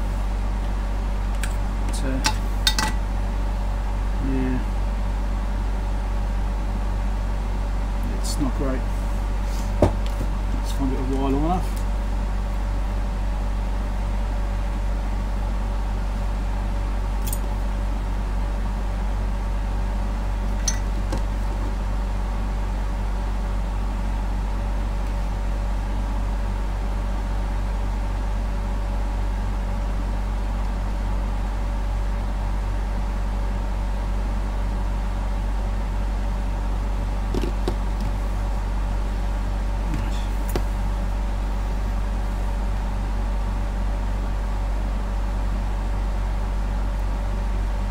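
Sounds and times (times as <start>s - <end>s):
low electrical hum: 0.0s - 47.9s.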